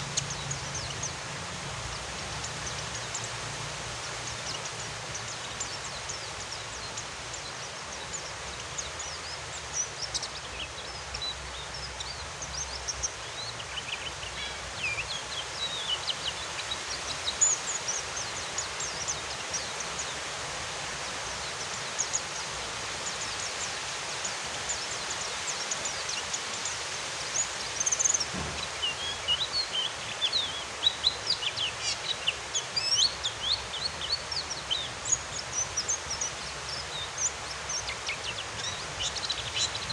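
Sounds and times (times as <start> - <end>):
rain hissing: 0.0 - 10.7, 11.4 - 39.9
small birds twittering: 0.0 - 39.9.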